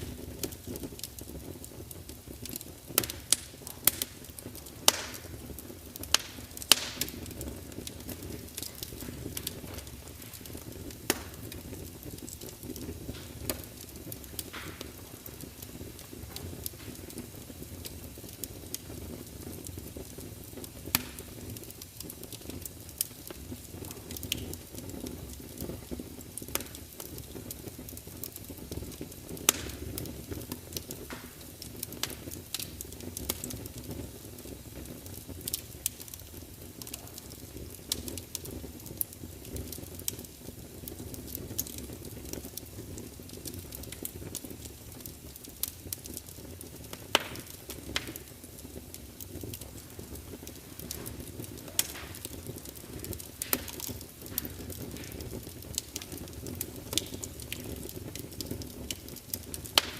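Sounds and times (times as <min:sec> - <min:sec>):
fire rumbling and hissing: 0:00.0 - 0:59.9
logs crackling and popping: 0:00.0 - 0:59.9.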